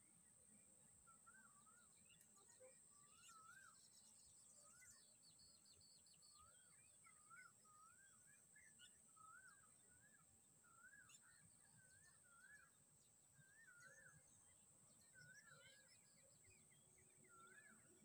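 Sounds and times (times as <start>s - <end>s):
faint bird calls: 1.0s - 18.0s.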